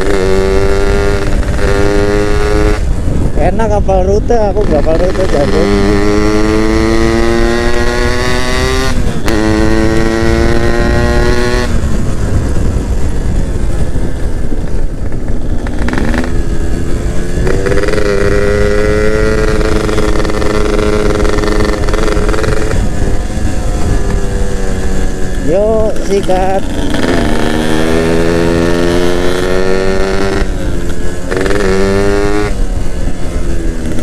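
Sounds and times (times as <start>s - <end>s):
two-stroke motorcycle engine accelerating: 0.0s - 34.0s
wind rushing past microphone: 0.0s - 34.0s.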